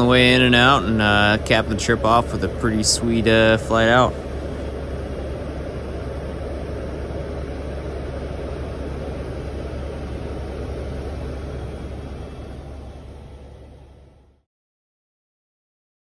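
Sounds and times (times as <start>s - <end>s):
helicopter engine and rotor drone: 0.0s - 14.4s.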